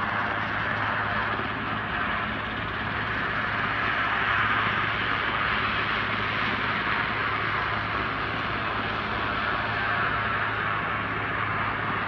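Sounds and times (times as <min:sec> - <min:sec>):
distant helicopter drone: 0:00.0 - 0:12.0.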